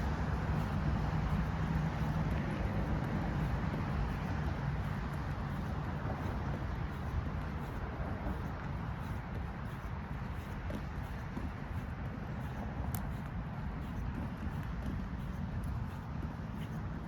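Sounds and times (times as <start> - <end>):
distant road traffic: 0.0 - 17.0.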